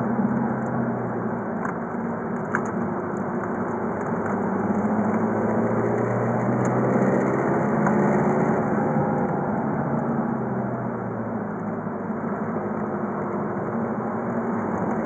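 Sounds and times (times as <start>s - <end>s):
diesel car engine running: 0.0s - 15.0s.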